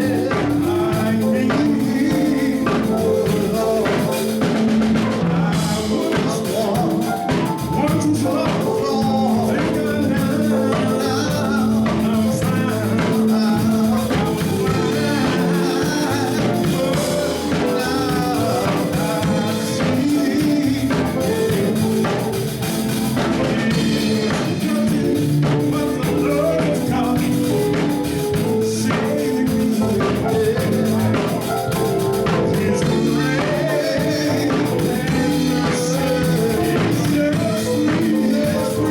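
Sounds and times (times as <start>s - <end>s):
band playing: 0.0s - 38.9s
person singing gospel: 0.0s - 38.9s.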